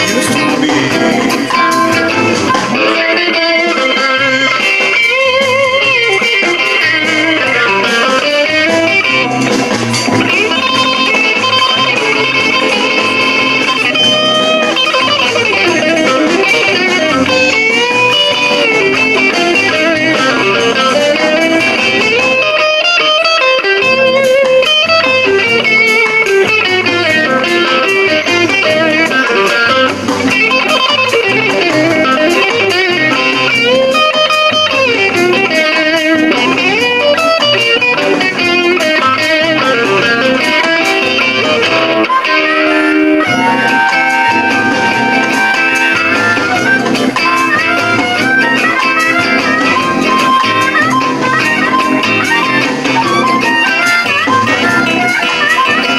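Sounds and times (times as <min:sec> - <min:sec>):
blues electric guitar: 0:00.0 - 0:55.9
harmonica wailing bent notes: 0:00.0 - 0:55.9.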